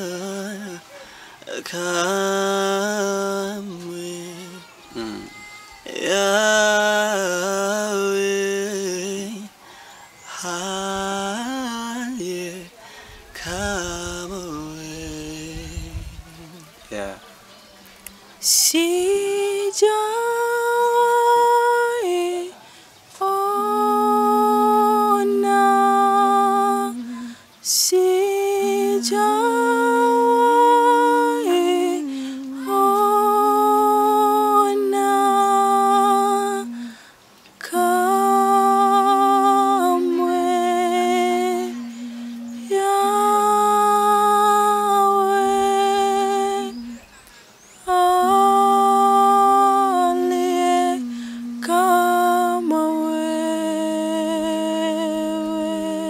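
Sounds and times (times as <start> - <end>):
woman singing long notes: 0.0 - 16.8, 18.0 - 56.0
lower voice singing harmony: 0.0 - 17.2, 18.0 - 56.0.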